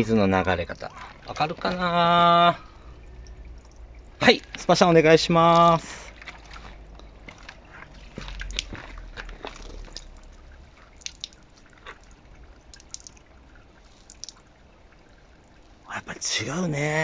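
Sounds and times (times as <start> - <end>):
water dripping and sloshing: 0.0 - 17.0.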